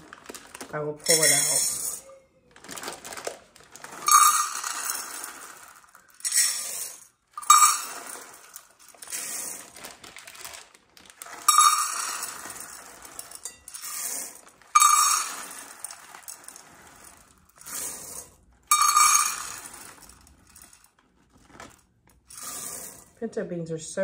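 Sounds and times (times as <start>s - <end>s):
dry beans rattling into glass bowl: 0.0s - 23.1s.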